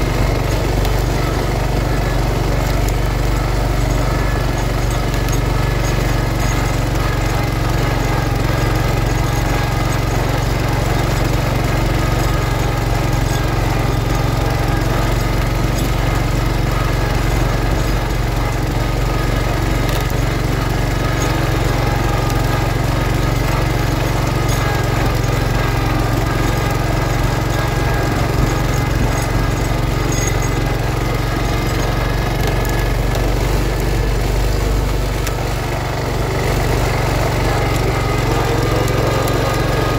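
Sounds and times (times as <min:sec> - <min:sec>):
garden tractor engine under load: 0:00.0 - 0:39.9.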